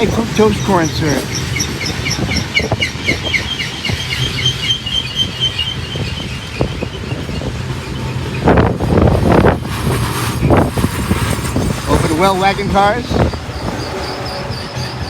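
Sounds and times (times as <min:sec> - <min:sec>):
freight cars rumbling past: 0:00.0 - 0:15.0
wind buffeting microphone: 0:00.0 - 0:15.0.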